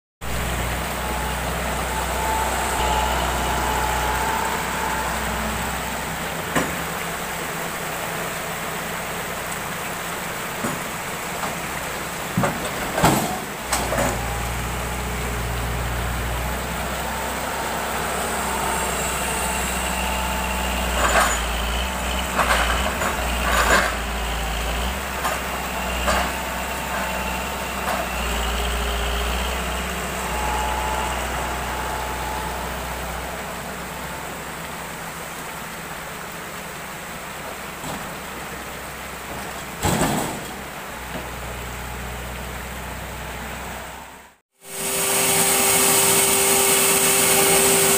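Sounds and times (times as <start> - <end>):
excavator diesel engine running: 0.2 - 47.9.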